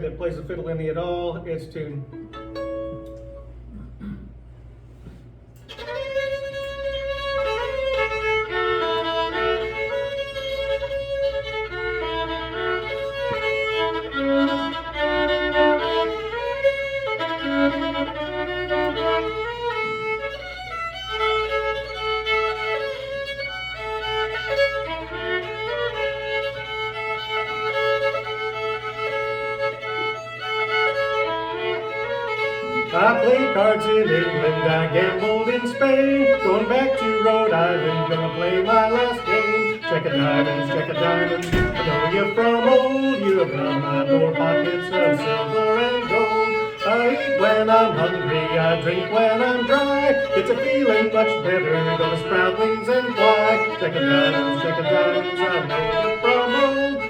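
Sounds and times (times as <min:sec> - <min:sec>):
fiddle playing lively tune: 0:00.0 - 0:03.6, 0:05.6 - 0:57.0.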